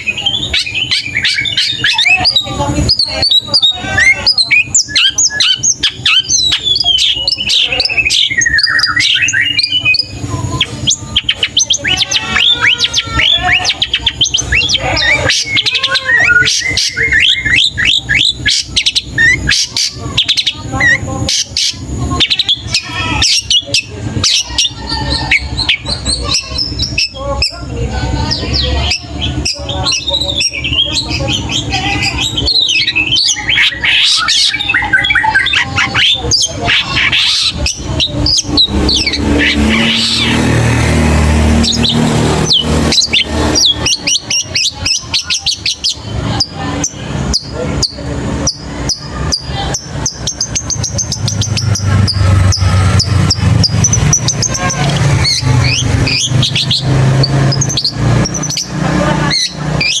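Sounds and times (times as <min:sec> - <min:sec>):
shrike chattering song: 0:00.0 - 1:00.0.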